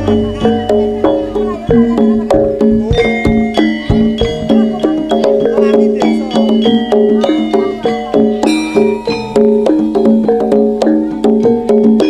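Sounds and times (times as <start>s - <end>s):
metallophone melody: 0.0s - 12.0s.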